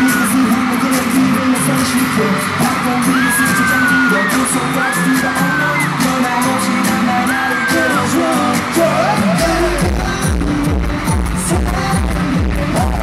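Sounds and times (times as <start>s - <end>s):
audience screaming: 0.0s - 13.0s
heavy bass beat: 0.0s - 13.0s
live pop song over sound system: 0.0s - 13.0s
person singing: 0.0s - 13.0s.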